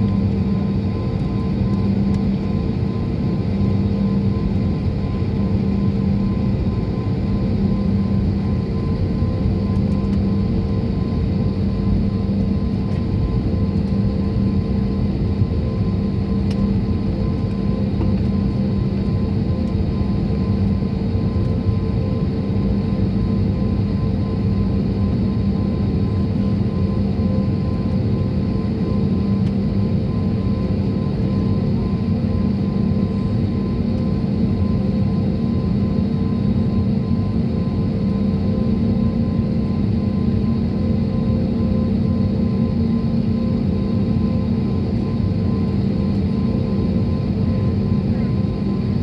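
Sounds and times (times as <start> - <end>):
jet airliner cabin drone: 0.0 - 49.0.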